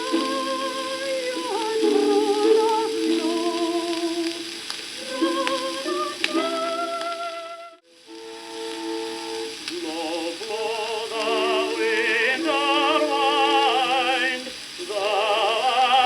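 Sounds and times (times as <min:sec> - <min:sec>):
old record instrumental notes: 0:00.0 - 0:16.0
soprano singing with vibrato: 0:00.0 - 0:16.0.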